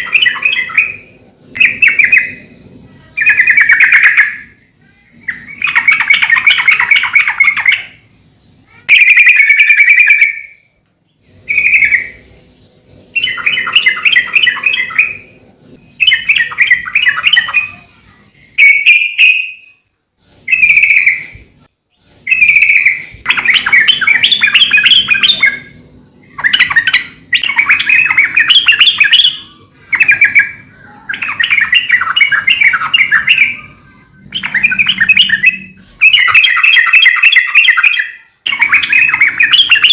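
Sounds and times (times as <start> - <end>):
bulbul singing chattering phrases: 0.0 - 39.9.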